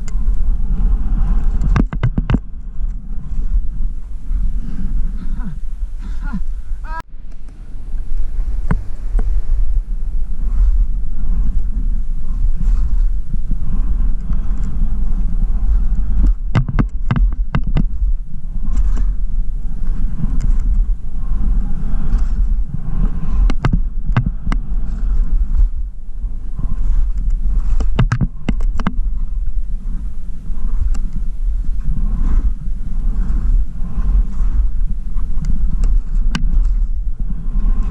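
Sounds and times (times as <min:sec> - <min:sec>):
skis scraping on snow: 0:00.0 - 0:07.0, 0:07.6 - 0:37.9
wind buffeting microphone: 0:00.0 - 0:37.9.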